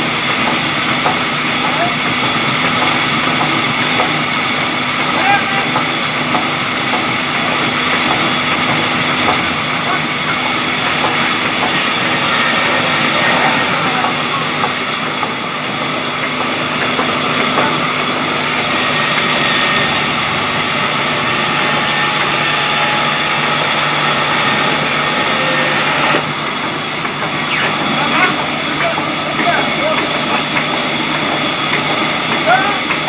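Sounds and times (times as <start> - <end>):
band saw machinery running: 0.0 - 33.0
steady machine hum: 0.0 - 33.0.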